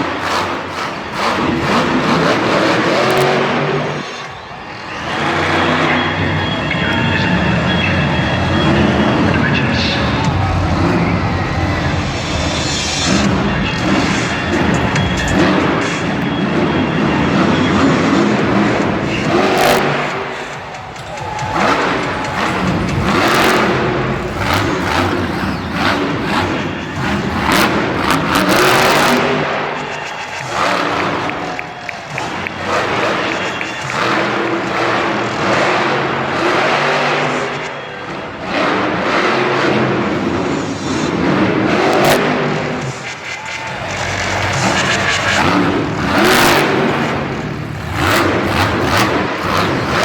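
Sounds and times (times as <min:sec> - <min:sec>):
monster truck engine revving: 0:00.0 - 0:50.0.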